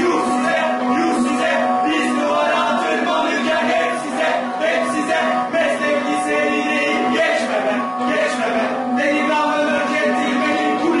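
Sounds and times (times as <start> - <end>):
men singing: 0.0 - 11.0.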